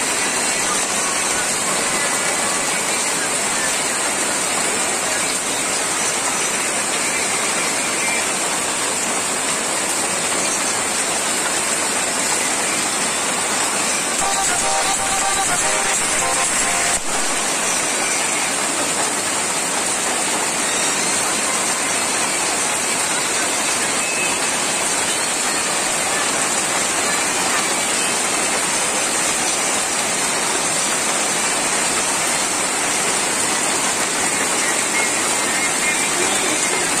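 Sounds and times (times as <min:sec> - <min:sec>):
heavy rain on metal roofs: 0:00.0 - 0:37.0
water pouring off roof edge: 0:00.0 - 0:37.0.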